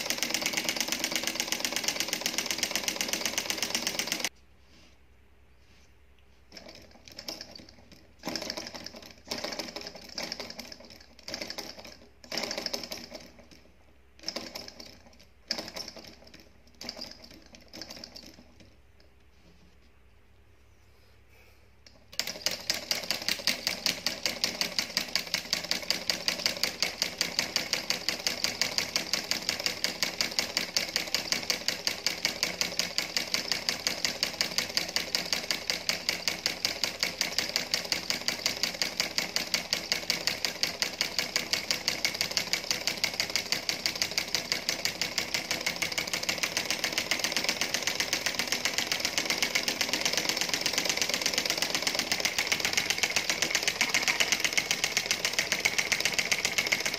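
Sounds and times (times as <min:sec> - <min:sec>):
solenoid engine clicking: 0:00.0 - 0:04.3, 0:06.5 - 0:19.2, 0:21.8 - 0:56.9.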